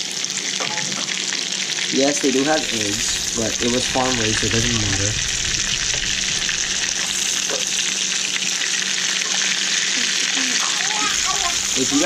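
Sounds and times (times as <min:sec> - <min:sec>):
prawns sizzling in a pan: 0:00.0 - 0:12.0.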